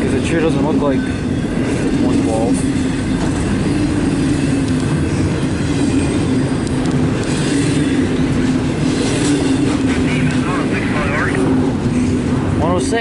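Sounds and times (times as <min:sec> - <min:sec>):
freight train rolling past: 0:00.0 - 0:13.0
steel wheels rumbling on rails: 0:00.0 - 0:13.0.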